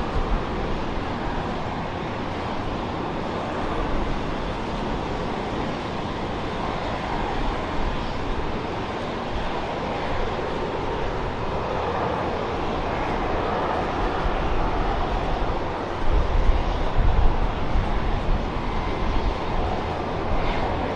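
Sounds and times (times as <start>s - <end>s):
jet engines rumbling: 0.0s - 20.9s.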